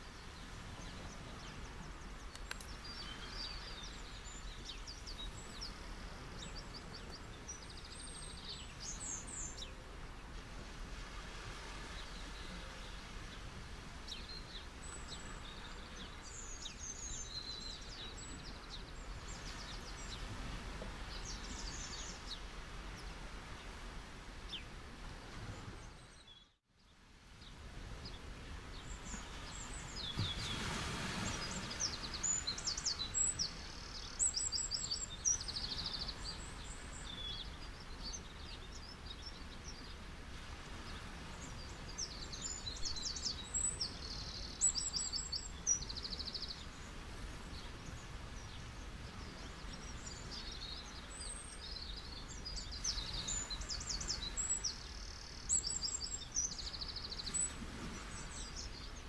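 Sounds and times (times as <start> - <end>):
small birds chirping: 0.0 - 10.3, 14.0 - 20.3, 21.0 - 23.8, 25.6 - 40.0, 40.8 - 59.0
ocean surf washing: 0.0 - 26.1, 27.5 - 59.0.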